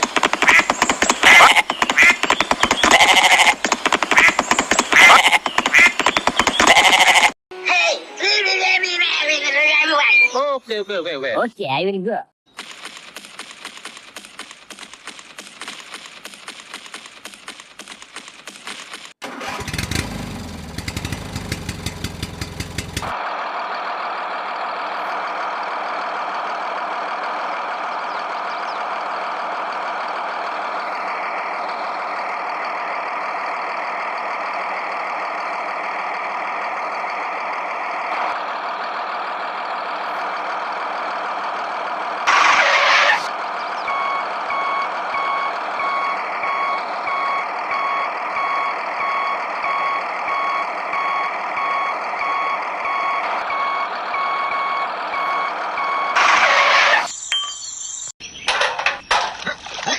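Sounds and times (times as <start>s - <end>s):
engine starting and running: 0.0s - 7.3s, 12.5s - 57.2s.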